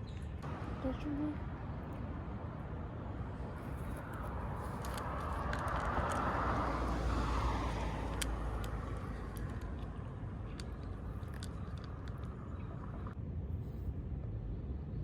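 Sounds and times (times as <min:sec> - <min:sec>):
traffic noise: 0:00.0 - 0:15.0
car passing: 0:00.5 - 0:13.2.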